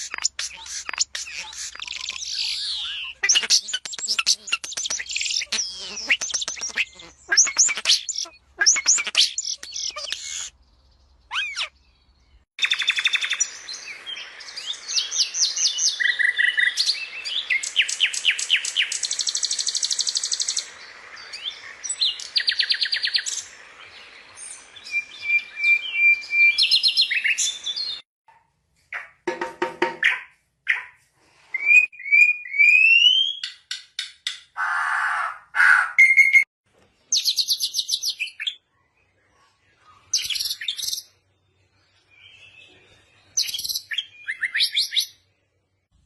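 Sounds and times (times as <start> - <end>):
small birds chirping and trilling: 0.0 - 28.0, 34.6 - 46.0.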